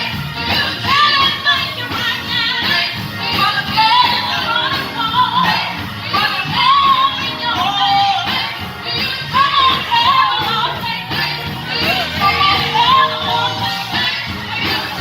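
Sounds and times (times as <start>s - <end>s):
band accompaniment: 0.0s - 15.0s.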